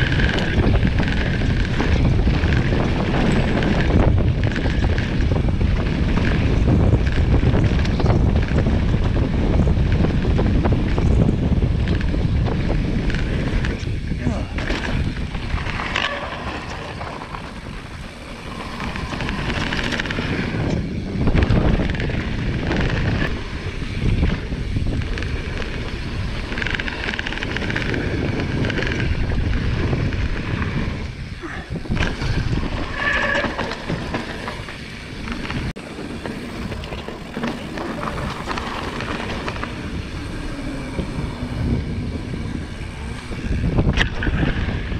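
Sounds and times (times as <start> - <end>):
mountain bike rattling: 0.0 - 44.9
wind buffeting microphone: 0.0 - 44.9.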